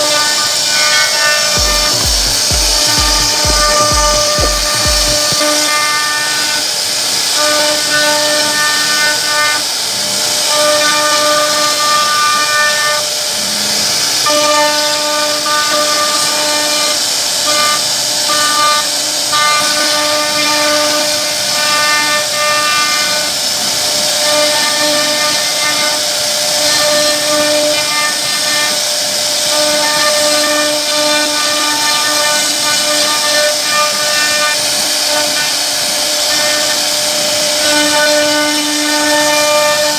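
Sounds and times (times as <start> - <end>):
router bit whine: 0.0 - 39.9
router spindle hiss: 0.0 - 39.9.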